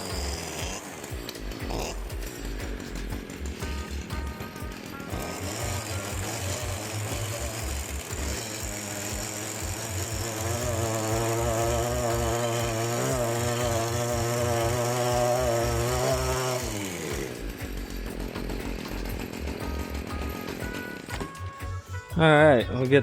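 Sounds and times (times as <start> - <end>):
small two-stroke engine running: 0.0 - 21.9.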